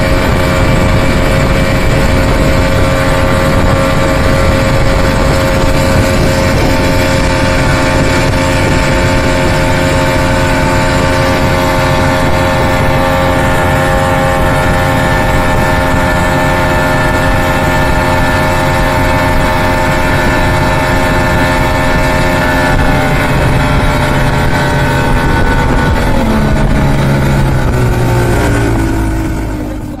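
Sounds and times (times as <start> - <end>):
outboard motor running: 0.0 - 30.0
steady rushing noise: 0.0 - 30.0.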